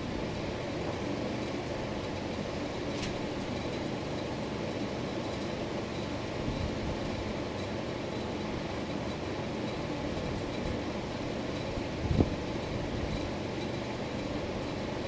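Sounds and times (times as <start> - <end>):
ceiling fan whooshing: 0.0 - 15.0.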